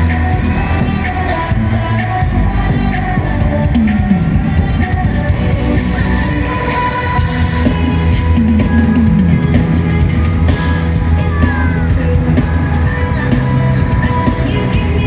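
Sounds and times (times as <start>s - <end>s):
heavy bass beat: 0.0s - 15.0s
person singing: 0.0s - 15.0s.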